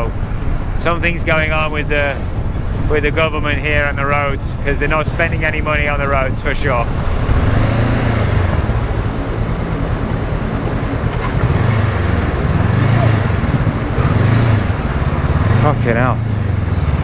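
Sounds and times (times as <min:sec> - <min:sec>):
constant rushing noise: 0:00.0 - 0:17.0
motorcycle engine running: 0:00.0 - 0:17.0.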